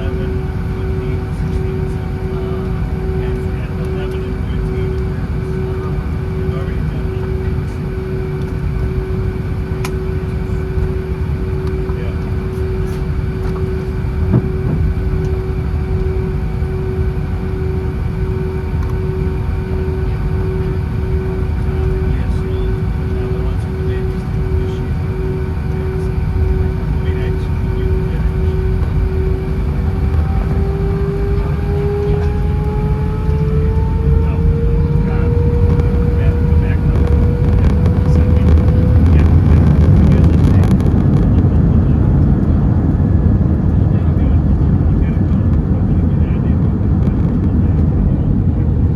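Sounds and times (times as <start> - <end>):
jet engine cabin rumble: 0.0 - 48.9
steady whine: 0.0 - 48.9.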